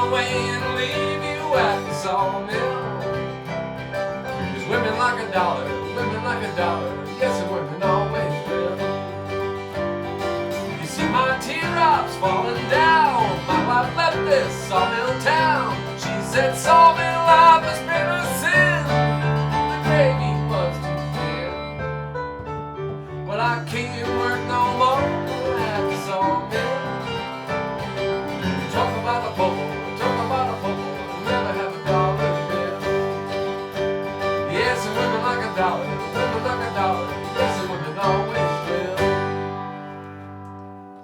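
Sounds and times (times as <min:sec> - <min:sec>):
country band playing: 0:00.0 - 0:41.0.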